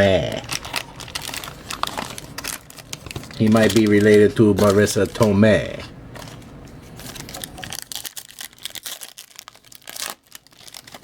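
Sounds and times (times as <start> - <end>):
trading card packs crinkling: 0.0 - 11.0.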